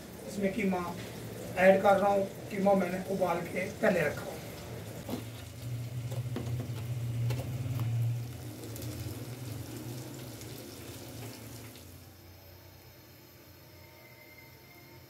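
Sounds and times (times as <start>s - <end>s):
food sizzling in pot: 0.0s - 15.0s.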